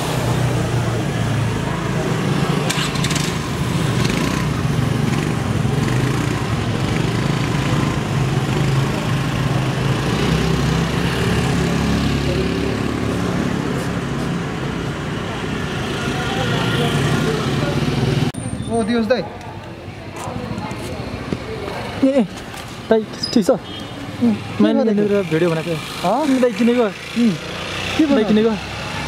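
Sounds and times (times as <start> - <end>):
scooter and motorcycle engines: 0.0 - 29.0
traffic noise: 0.0 - 29.0.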